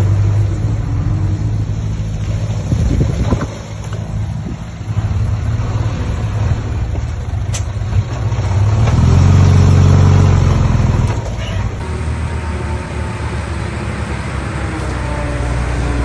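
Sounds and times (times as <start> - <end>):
diesel engine revving under load: 0.0 - 16.0.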